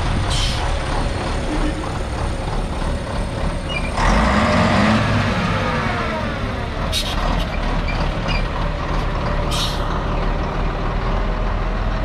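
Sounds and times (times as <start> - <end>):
diesel truck driving past: 0.0 - 12.0.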